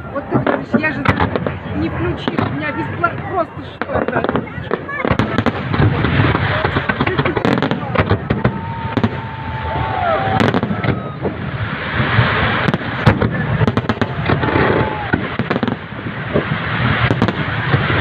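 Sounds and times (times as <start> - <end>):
crowd voices: 0.0 - 18.0
fireworks bangs and crackling: 0.0 - 18.0.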